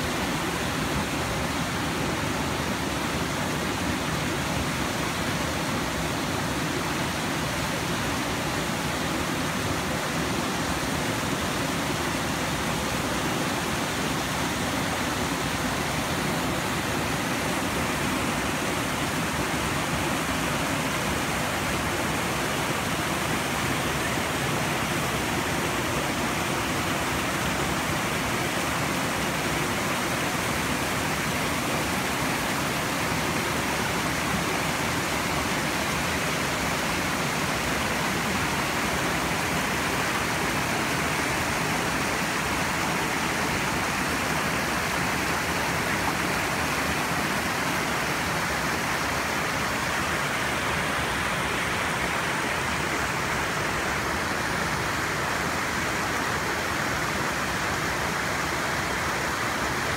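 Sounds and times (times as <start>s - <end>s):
creek water rushing over rocks: 0.0s - 59.9s.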